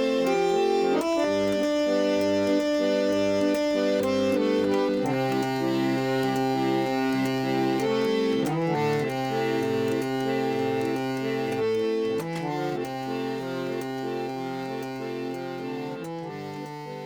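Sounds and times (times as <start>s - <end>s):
electric organ playing chords: 0.0s - 17.0s.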